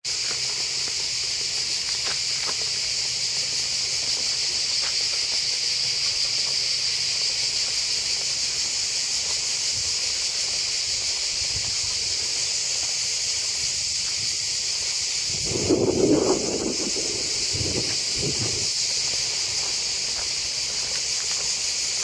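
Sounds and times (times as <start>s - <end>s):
cicadas buzzing: 0.0s - 22.0s.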